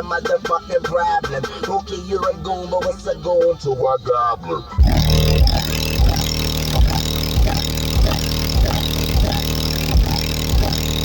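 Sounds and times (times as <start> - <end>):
hip-hop beat through car speakers: 0.0 - 11.0.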